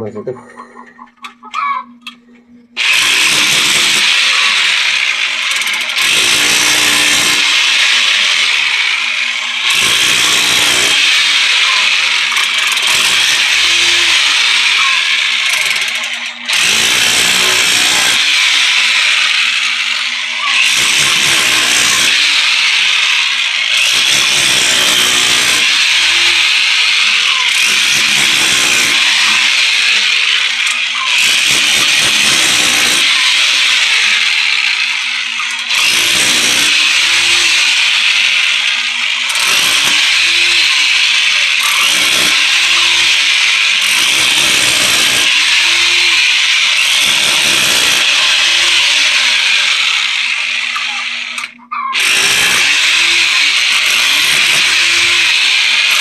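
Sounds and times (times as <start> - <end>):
electric chipping hammer chiselling: 2.8 - 56.0.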